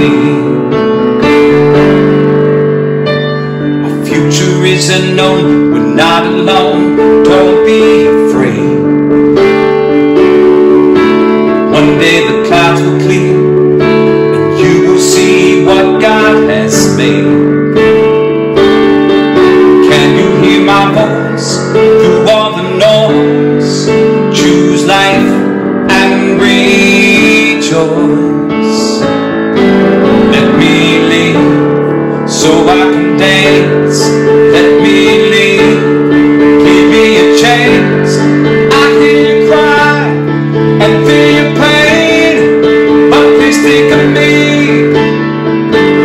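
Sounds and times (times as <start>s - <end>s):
man singing: 0.0s - 2.5s, 3.1s - 9.6s, 11.4s - 18.1s, 19.2s - 46.0s
digital piano chords: 0.0s - 46.0s.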